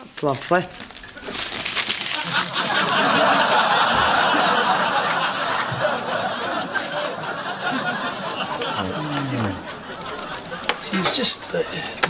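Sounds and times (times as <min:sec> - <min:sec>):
audience laughing: 0:02.1 - 0:12.0.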